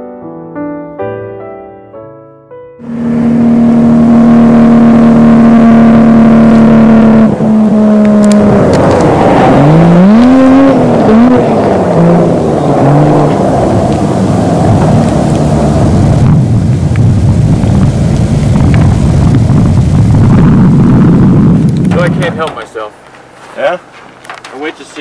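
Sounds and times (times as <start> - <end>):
car engine revving: 2.8 - 23.0.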